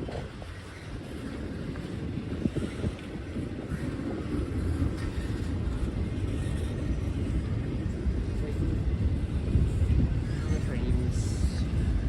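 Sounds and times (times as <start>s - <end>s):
freight train rumbling: 0.0s - 12.0s
wind buffeting microphone: 0.0s - 12.0s.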